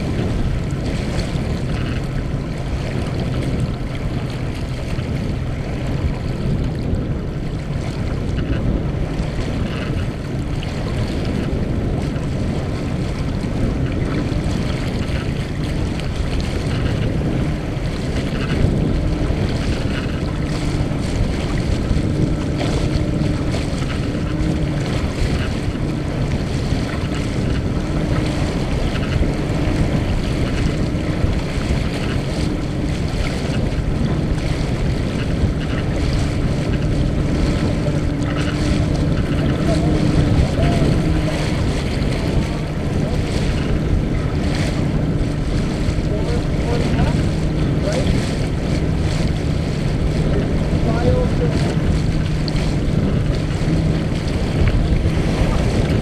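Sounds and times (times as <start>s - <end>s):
water rushing along boat hull: 0.0s - 56.0s
wind buffeting microphone: 0.0s - 56.0s.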